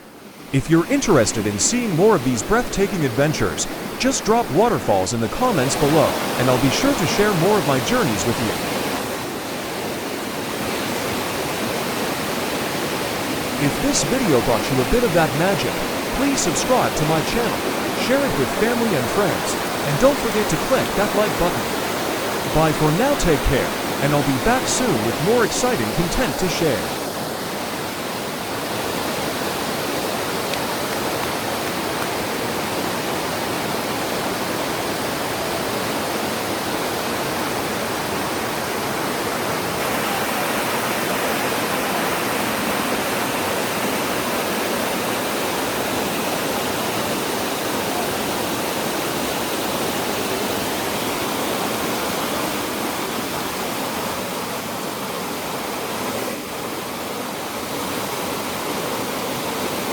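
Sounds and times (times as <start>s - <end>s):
waterfall rushing: 0.1s - 59.9s.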